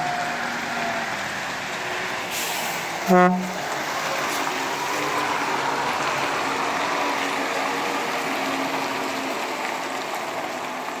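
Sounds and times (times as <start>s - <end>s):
truck passing by: 0.0s - 11.0s.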